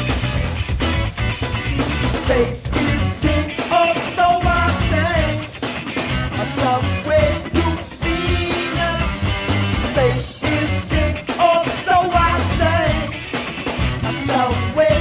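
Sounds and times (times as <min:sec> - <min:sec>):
funk rock band playing: 0:00.0 - 0:15.0.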